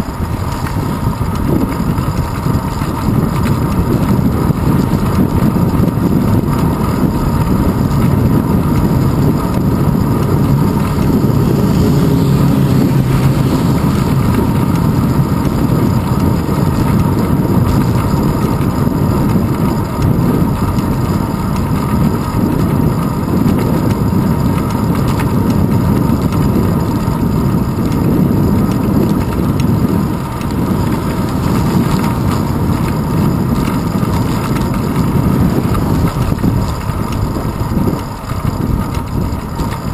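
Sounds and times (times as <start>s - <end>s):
bicycle road rumble: 0.0s - 39.9s
wind buffeting: 0.0s - 39.9s.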